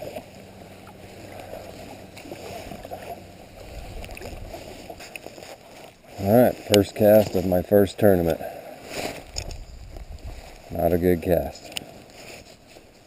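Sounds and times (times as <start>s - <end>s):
water sloshing around kayak hull: 0.0s - 13.0s.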